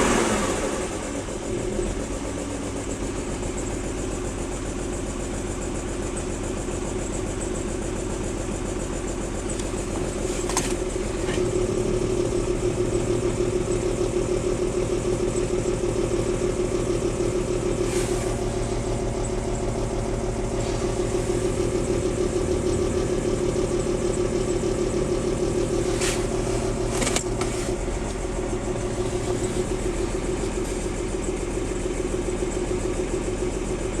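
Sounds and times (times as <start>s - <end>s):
car engine idling roughly: 0.0s - 34.0s.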